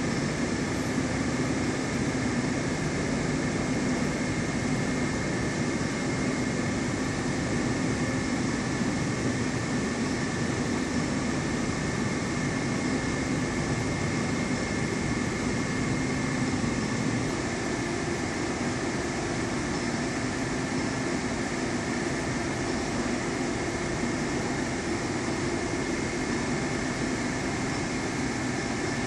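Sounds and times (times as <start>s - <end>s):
aquarium machinery hum: 0.0s - 29.0s.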